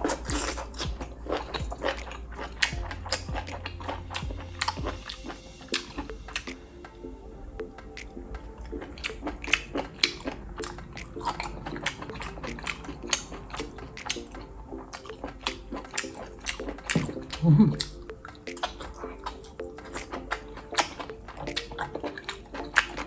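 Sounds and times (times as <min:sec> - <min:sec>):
close-miked eating and chewing: 0:00.0 - 0:23.0.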